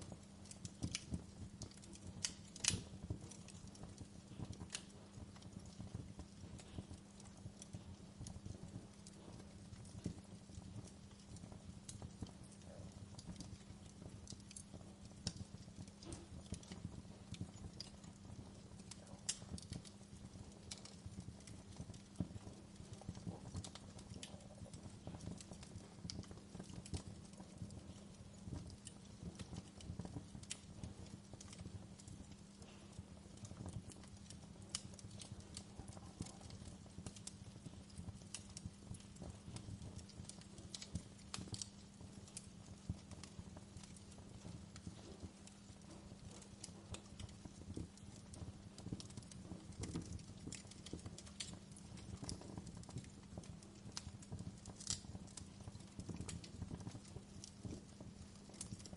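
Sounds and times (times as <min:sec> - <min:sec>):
low steady fire rumble: 0:00.0 - 0:58.9
wood fire crackling: 0:00.0 - 0:58.9.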